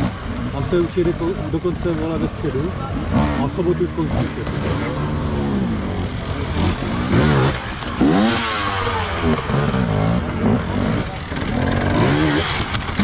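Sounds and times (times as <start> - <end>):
motorcycle engine revving hard: 0.0 - 13.0.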